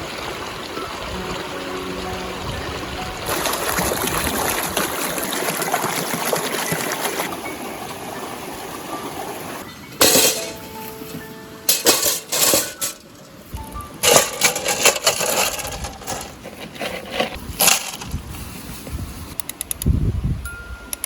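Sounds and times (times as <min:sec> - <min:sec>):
water pouring and trickling: 0:00.0 - 0:11.0, 0:11.7 - 0:18.5.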